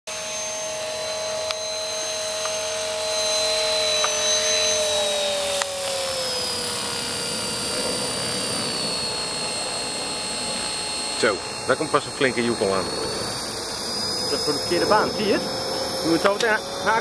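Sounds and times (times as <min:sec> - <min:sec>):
model helicopter rotor whining: 0:00.1 - 0:17.0.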